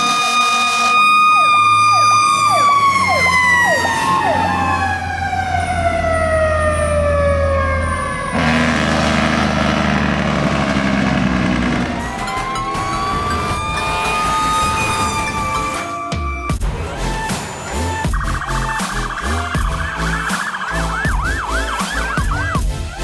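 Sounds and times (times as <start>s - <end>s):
second siren sweeping: 0.0s - 22.6s
truck engine rumbling: 0.0s - 23.0s
mechanical siren winding down: 1.0s - 8.4s, 10.4s - 22.6s.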